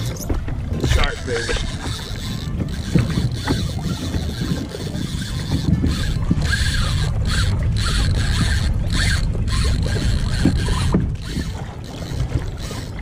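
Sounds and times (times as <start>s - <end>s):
wind: 0.0s - 13.0s
fishing reel ratchet clicking: 0.8s - 13.0s.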